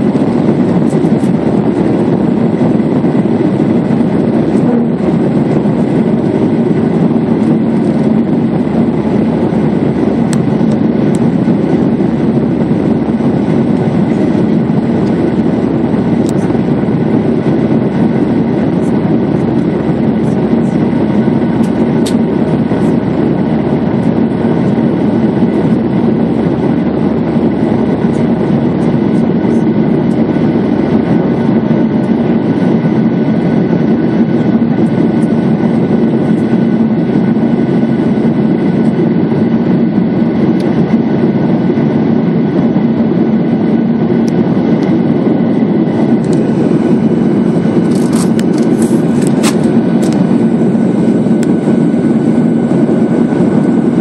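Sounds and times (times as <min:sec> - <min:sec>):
jet engines roaring in cabin: 0:00.0 - 0:54.0.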